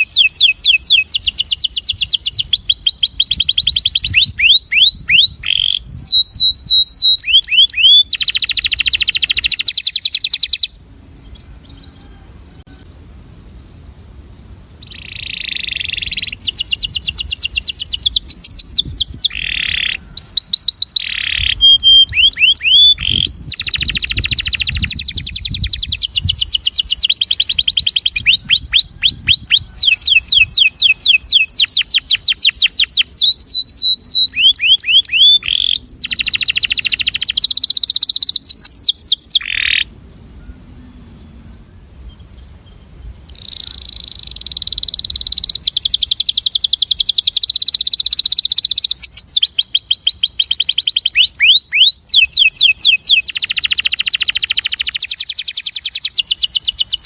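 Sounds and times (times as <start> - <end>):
canary singing trills: 0.0 - 13.2, 14.0 - 57.0.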